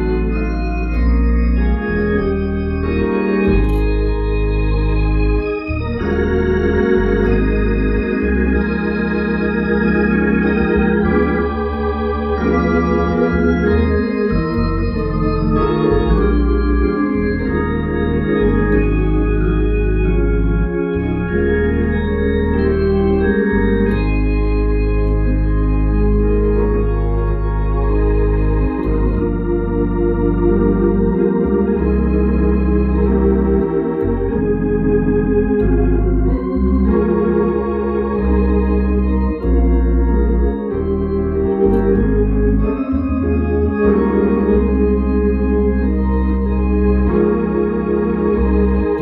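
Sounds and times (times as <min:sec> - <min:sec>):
organ playing a hymn: 0:00.0 - 0:49.0.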